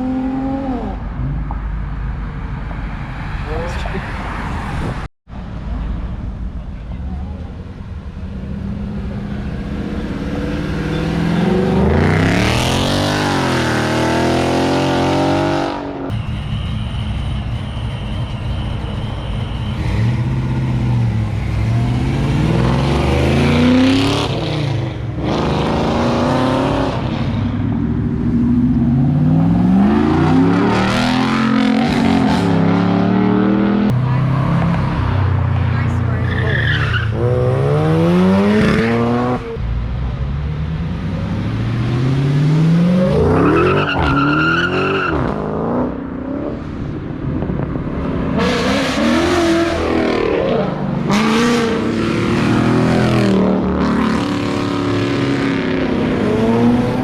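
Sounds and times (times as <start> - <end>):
car engines revving and accelerating: 0.0 - 5.1, 7.2 - 57.0.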